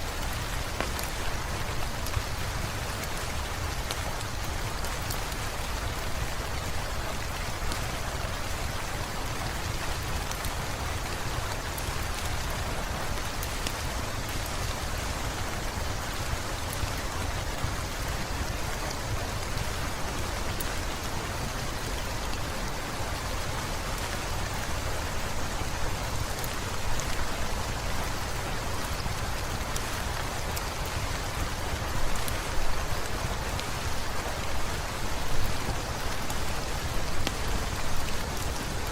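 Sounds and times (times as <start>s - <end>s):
heavy rain falling: 0.0s - 38.9s
wood fire crackling: 0.1s - 38.9s.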